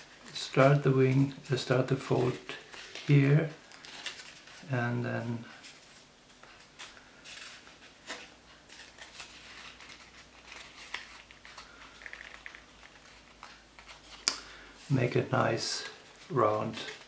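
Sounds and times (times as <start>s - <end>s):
paper rustling and crinkling: 0.0s - 4.7s, 5.3s - 14.7s, 15.3s - 17.0s.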